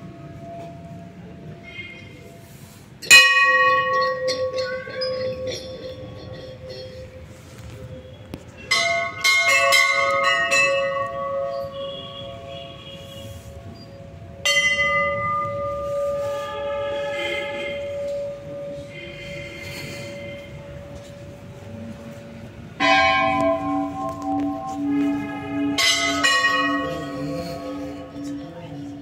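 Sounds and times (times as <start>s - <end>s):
temple bells ringing: 0.0s - 29.0s.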